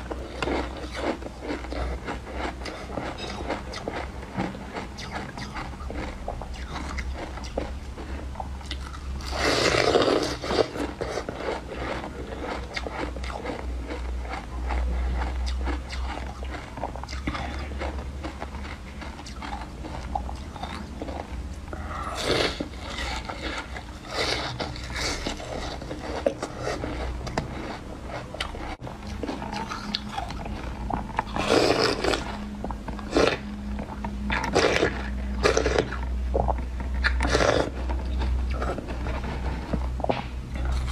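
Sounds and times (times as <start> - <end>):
chewing icy pieces: 0.0 - 40.9
steady low hum: 0.0 - 40.9.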